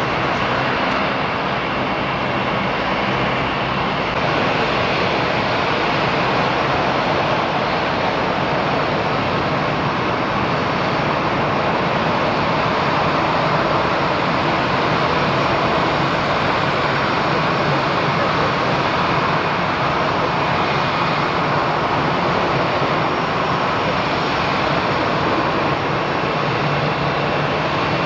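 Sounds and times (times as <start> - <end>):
aircraft taxiing roar: 0.0 - 28.0
propeller hum: 0.0 - 28.0.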